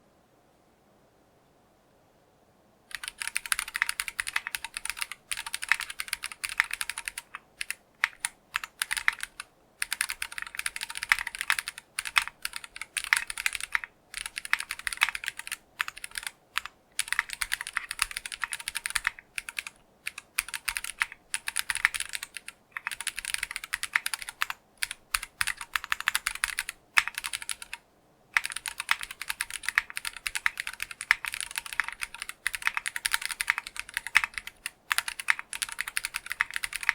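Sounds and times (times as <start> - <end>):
fast typing on mechanical keyboard: 2.9 - 36.9.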